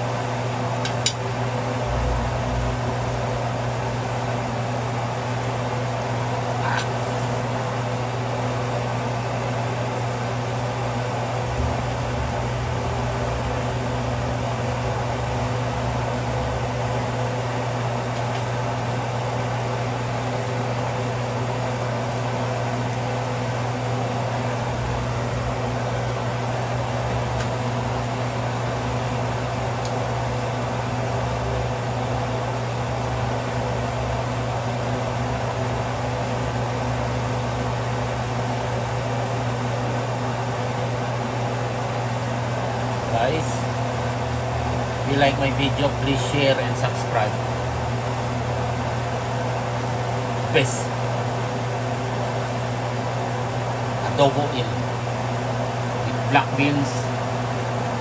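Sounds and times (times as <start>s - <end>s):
fan or motor humming: 0.0s - 58.0s.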